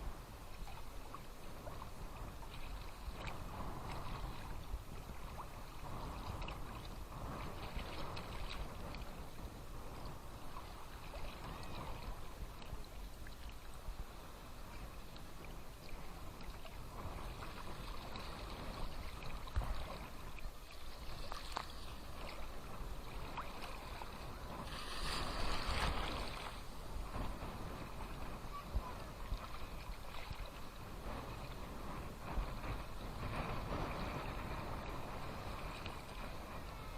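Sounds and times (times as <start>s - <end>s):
small waves lapping at shore: 0.0s - 36.9s.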